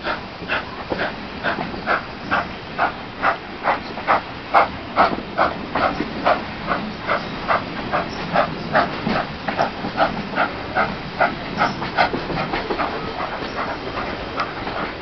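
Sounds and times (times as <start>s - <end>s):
steam locomotive chuffing: 0.0s - 15.0s
train wheels rumbling on track: 0.0s - 15.0s.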